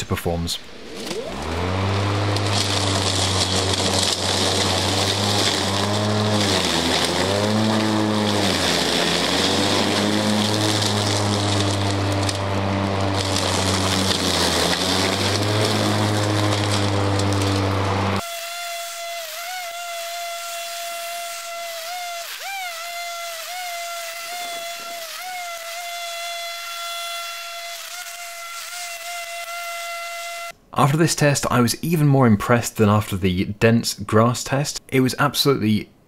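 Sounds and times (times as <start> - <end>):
electric lawnmower humming: 0.7 - 30.6
mower chewing dry leaves: 0.8 - 30.5.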